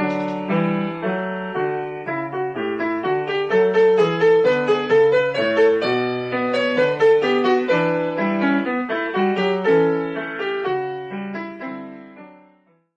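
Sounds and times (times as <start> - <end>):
keyboard piano music: 0.0 - 12.8.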